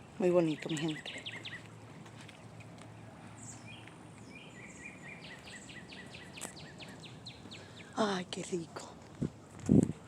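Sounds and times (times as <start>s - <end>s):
wild birds chirping: 0.0s - 8.6s.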